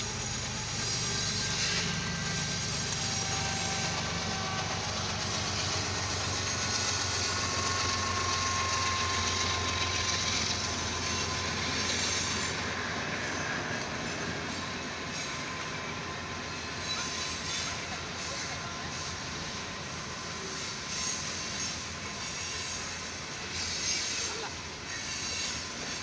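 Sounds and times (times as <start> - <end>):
diesel locomotive passing: 0.0 - 26.0
thin wheel squeal: 0.0 - 26.0.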